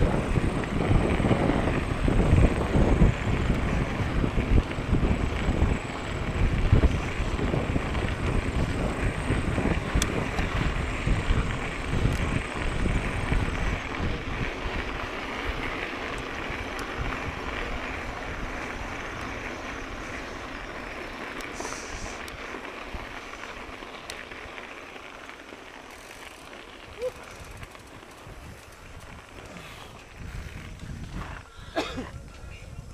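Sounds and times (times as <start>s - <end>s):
wind buffeting microphone: 0.0s - 24.6s, 26.7s - 32.9s
bike tyres rolling on trail: 0.0s - 32.9s.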